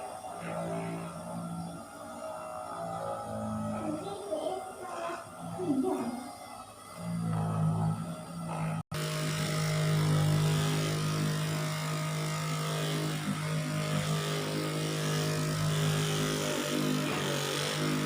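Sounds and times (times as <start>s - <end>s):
electric massager buzzing hum: 0.0s - 18.0s.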